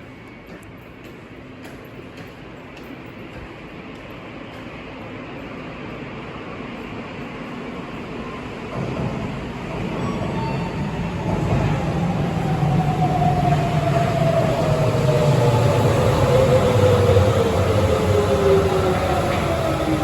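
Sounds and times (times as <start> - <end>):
subway train rumble: 0.0 - 20.0.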